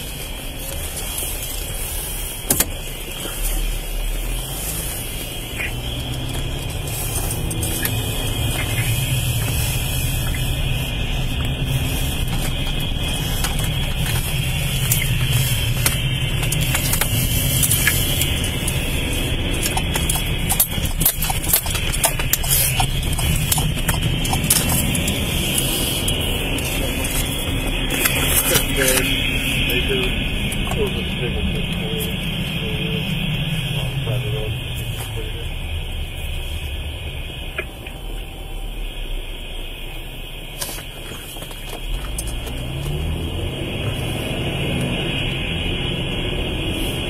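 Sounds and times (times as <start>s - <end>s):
car engine rumble inside cabin: 0.0s - 47.0s.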